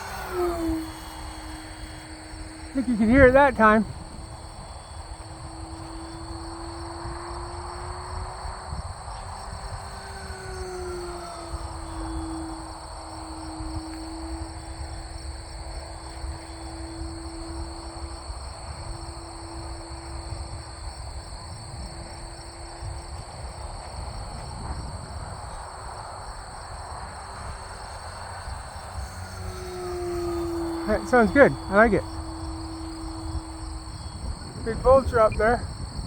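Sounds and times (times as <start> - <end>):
insect-like high buzz: 0.0 - 36.0
model plane motor with whistle: 0.0 - 36.0
wind on microphone: 0.0 - 36.0.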